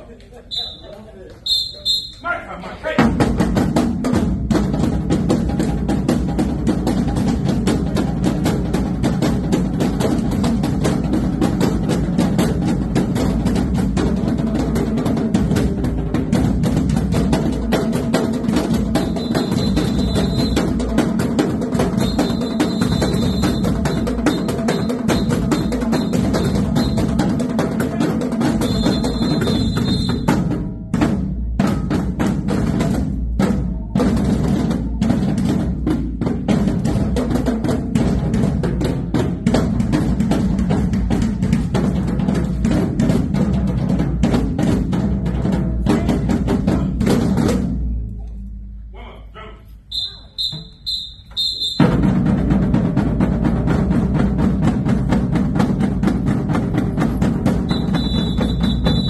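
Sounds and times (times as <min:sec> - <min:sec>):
marching drumline cadence: 0:00.0 - 0:59.0.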